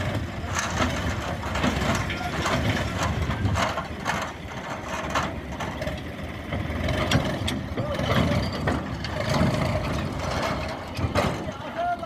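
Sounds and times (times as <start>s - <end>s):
clattering scraping strokes: 0.0s - 11.4s
tractor engine running: 0.0s - 12.0s.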